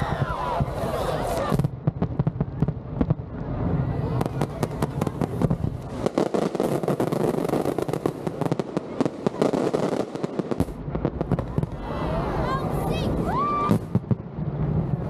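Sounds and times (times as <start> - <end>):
fireworks bangs and cracks: 0.0 - 15.0
fireworks crackling: 0.0 - 15.0.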